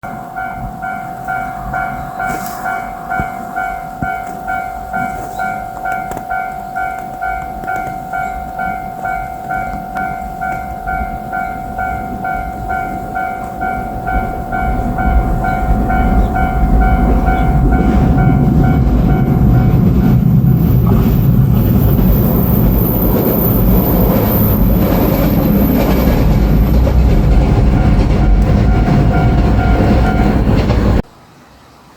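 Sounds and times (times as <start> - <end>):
level crossing alarm ringing: 0.0 - 31.0
steady tone: 0.0 - 31.0
railcar rumble: 0.0 - 31.4.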